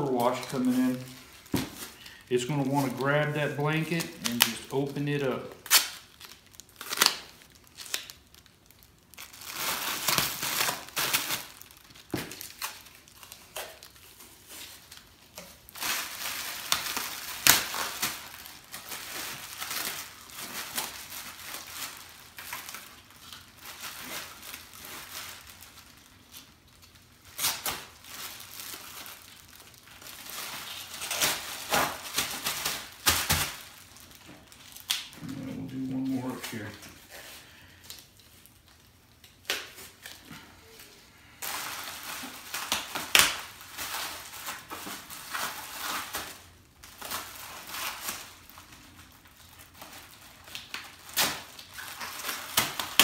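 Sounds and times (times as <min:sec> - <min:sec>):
foil sheet crinkling: 0:00.0 - 0:53.0.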